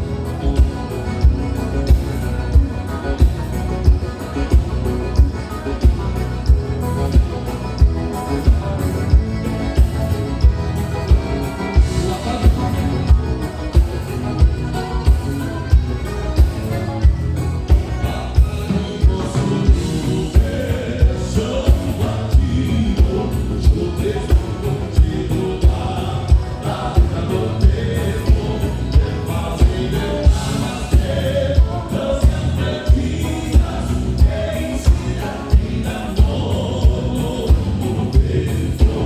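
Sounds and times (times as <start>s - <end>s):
band music: 0.0s - 39.0s
group singing: 0.0s - 39.0s
low drum beat: 0.0s - 39.0s.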